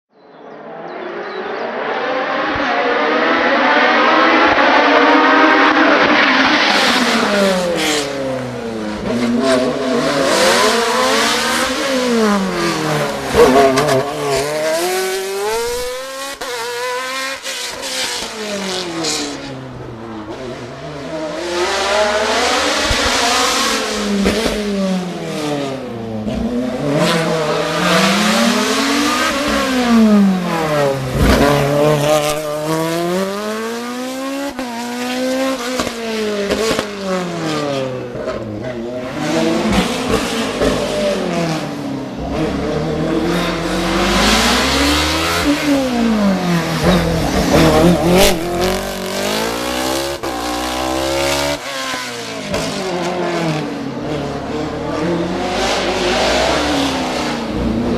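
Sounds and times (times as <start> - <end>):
racing car engine revving: 1.2 - 57.9.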